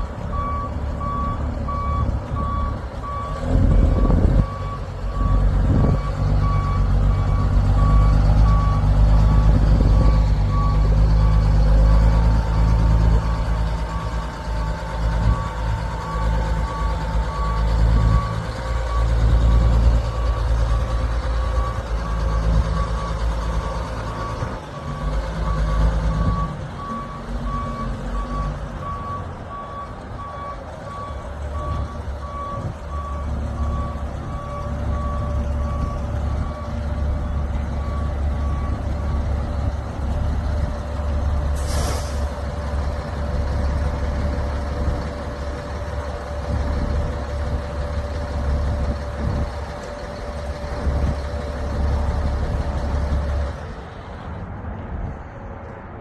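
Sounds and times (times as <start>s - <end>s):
diesel engine running: 0.0s - 55.8s.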